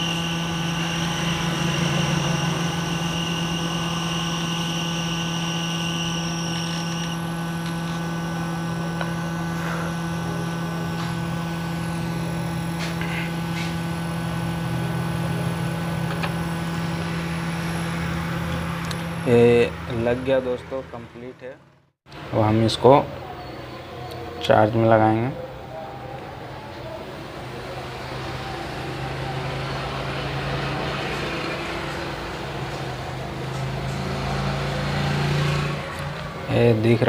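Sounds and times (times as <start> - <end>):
high whine: 0.0 - 22.5, 26.1 - 37.0
hot-air station blowing hum: 0.0 - 37.0.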